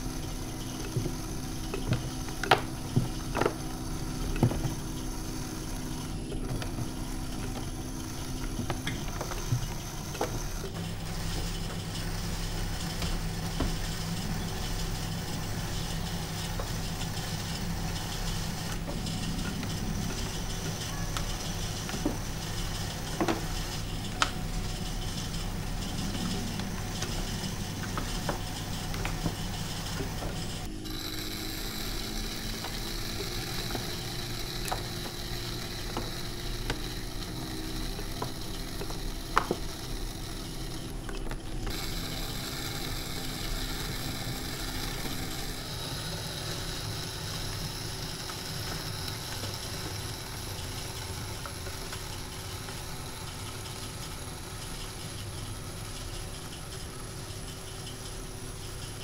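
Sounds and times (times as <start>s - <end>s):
potter's wheel hum: 0.0s - 59.0s
tool scraping clay: 0.0s - 59.0s.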